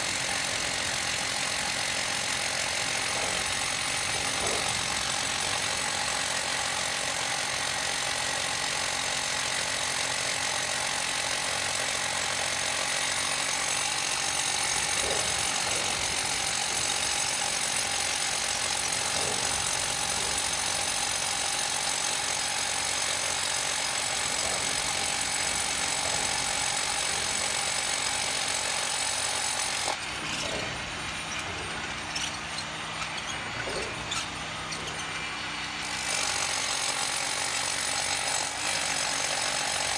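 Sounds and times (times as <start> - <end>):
rotary hammer drill boring concrete: 0.0 - 39.9.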